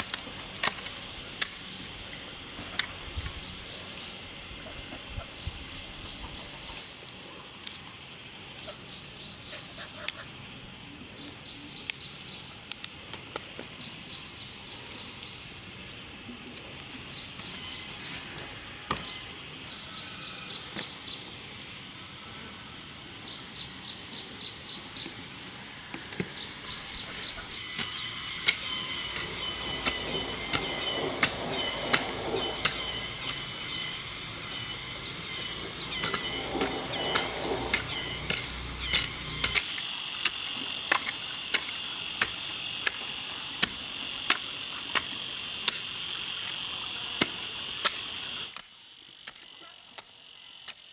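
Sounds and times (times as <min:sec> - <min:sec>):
high insect trill: 0:00.0 - 0:50.9.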